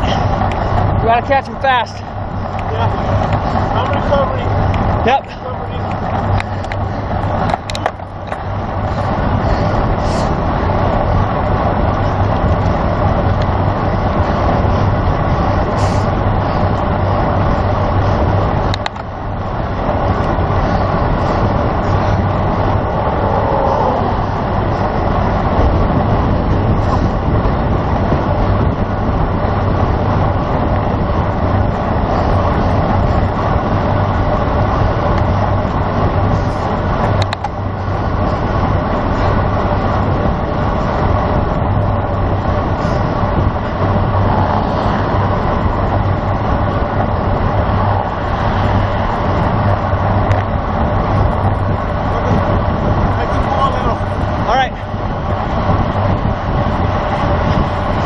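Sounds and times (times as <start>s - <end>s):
road noise hum: 0.0s - 58.0s
wind rushing over microphone: 0.0s - 58.0s.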